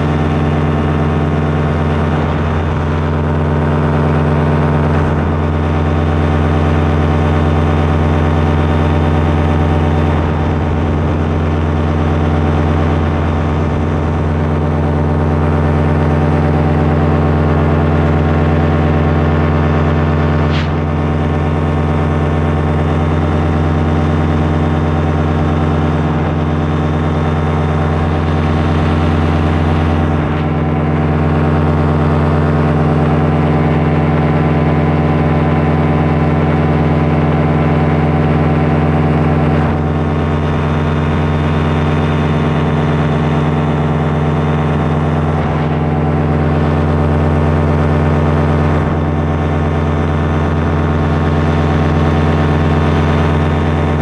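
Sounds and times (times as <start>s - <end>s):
small aircraft engine and propeller: 0.0s - 54.0s.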